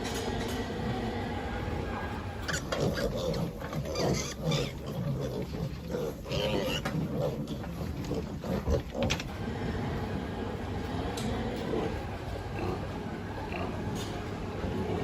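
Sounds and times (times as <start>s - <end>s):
pigs grunting: 2.4s - 15.0s.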